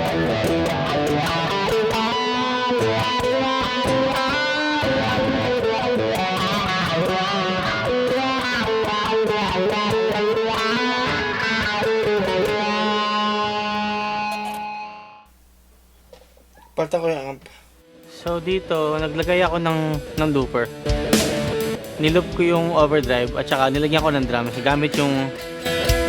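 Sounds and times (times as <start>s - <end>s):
electric guitar notes: 0.0s - 15.3s, 18.0s - 26.0s.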